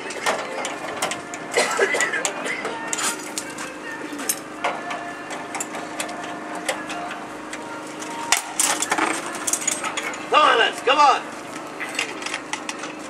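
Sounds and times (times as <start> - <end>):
hand tools clinking on metal: 0.0 - 10.9
steady low hum: 0.0 - 13.0.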